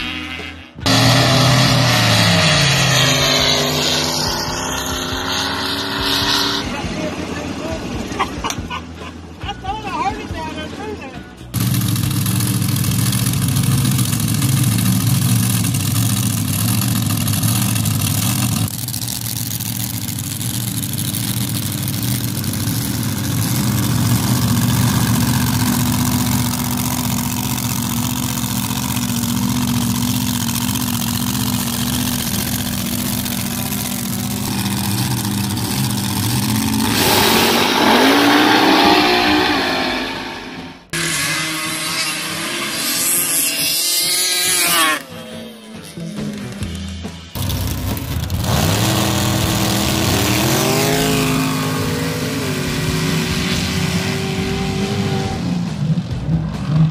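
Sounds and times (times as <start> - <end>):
engine full-throttle launch: 0.8 - 8.2, 11.6 - 45.2, 46.3 - 56.9
racing engines idling: 0.8 - 41.0, 43.3 - 56.9.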